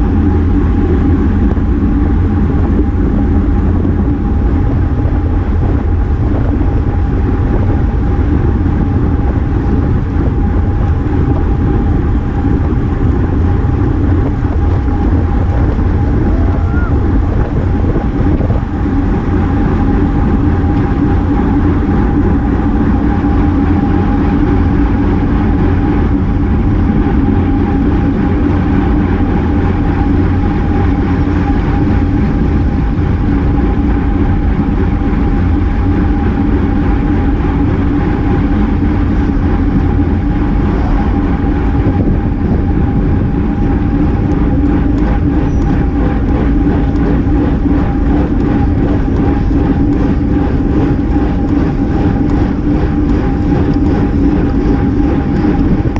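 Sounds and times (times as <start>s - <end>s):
bicycle road noise: 0.0s - 55.9s
constant hum: 0.0s - 55.9s
wind rushing: 0.0s - 55.9s.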